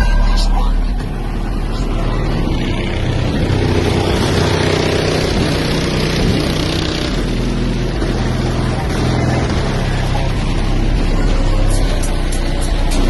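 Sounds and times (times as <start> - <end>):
harsh noise: 0.0 - 13.0
loud subwoofer bass notes: 0.0 - 13.0.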